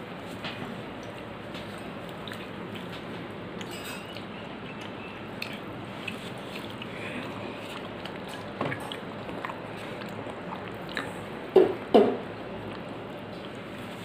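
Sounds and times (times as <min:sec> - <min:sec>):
soft chewing and lip smacks: 0:01.0 - 0:14.0.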